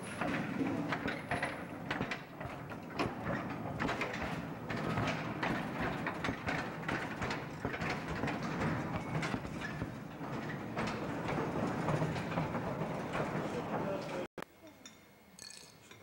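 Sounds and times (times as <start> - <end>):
tramway cars clattering on rails: 0.0 - 14.3.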